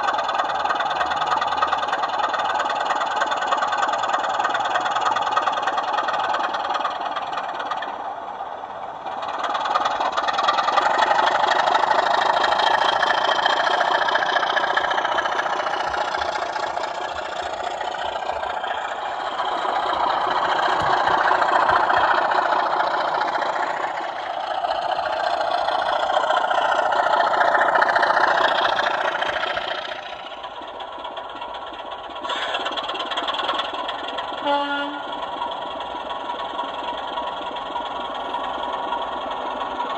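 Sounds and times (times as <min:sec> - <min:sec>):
model locomotive diesel engine sound: 0:00.0 - 0:39.9.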